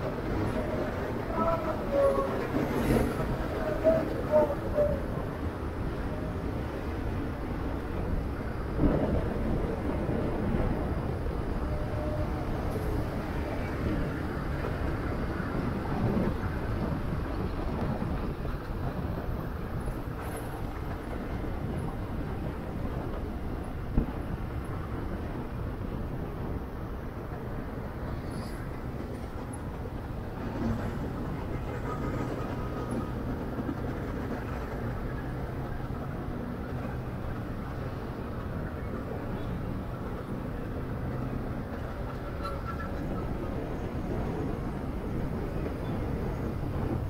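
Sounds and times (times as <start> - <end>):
road noise: 0.0 - 47.0
wind noise on microphone: 0.0 - 47.0.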